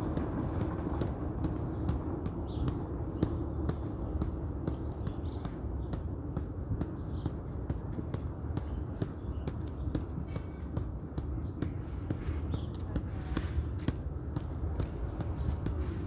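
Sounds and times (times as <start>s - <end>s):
foot tapping a ball: 0.0s - 16.0s.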